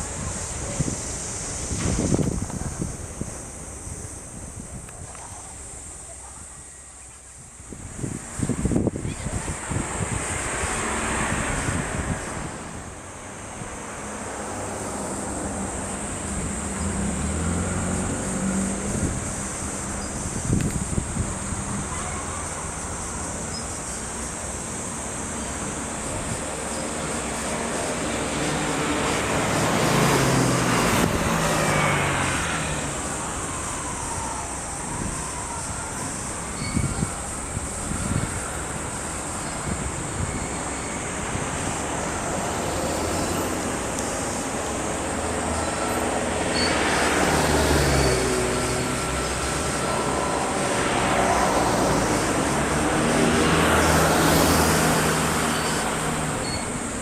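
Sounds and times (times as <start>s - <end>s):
vehicle passing by: 8.0s - 23.3s, 24.1s - 36.3s, 37.8s - 57.0s.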